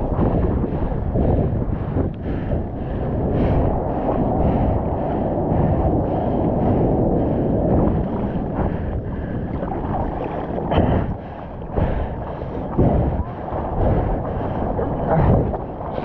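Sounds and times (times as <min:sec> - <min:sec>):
muffled seawater rushing: 0:00.0 - 0:16.0.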